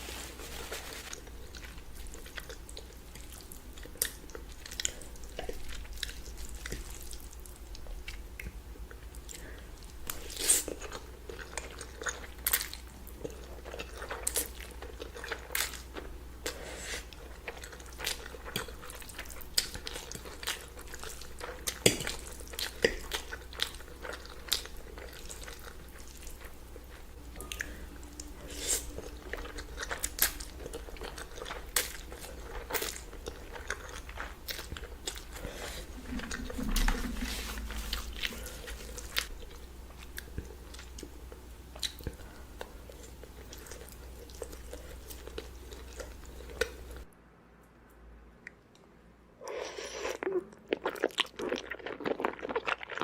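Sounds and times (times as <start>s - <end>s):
steady low hum: 0.0s - 49.6s.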